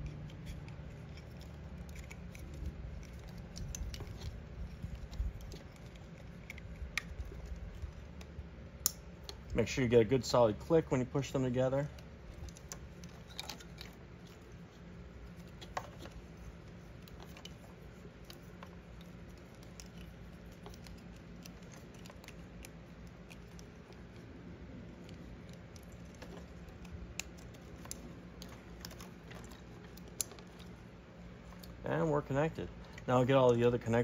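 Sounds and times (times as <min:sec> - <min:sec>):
rustling of wires: 0:00.0 - 0:34.0.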